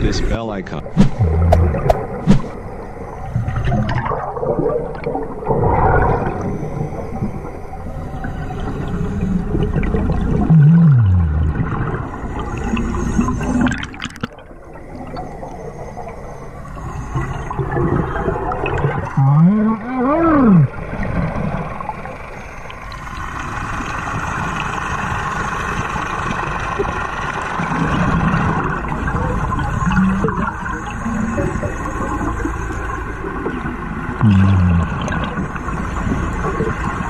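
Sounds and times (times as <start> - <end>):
underwater exhaled air bubbling: 0.9 - 37.0.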